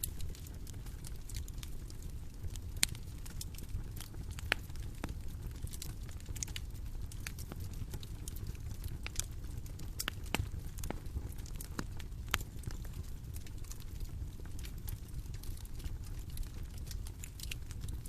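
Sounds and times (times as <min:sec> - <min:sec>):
bonfire rumbling: 0:00.0 - 0:18.0
fire popping and snapping: 0:00.0 - 0:18.0.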